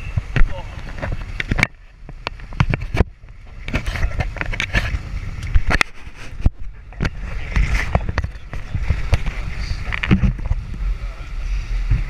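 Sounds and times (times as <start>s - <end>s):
water splashing against hulls: 0.0s - 12.0s
wind buffeting microphone: 0.0s - 12.0s
knocks and thumps: 0.2s - 10.8s.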